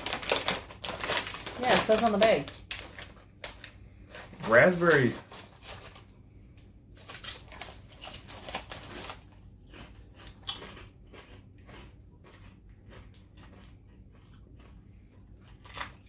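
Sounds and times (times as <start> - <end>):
potato chips crunching: 0.0 - 6.0, 7.0 - 16.0.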